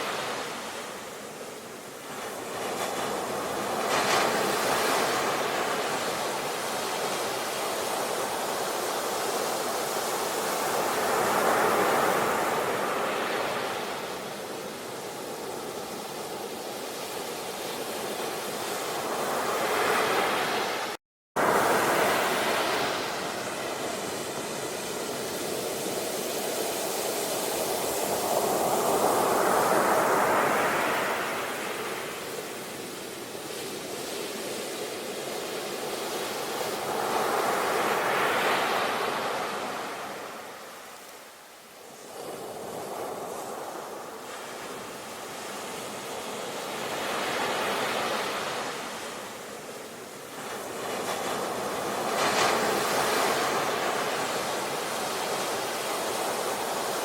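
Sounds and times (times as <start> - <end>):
sea waves surging: 0.0 - 41.2, 41.9 - 57.0.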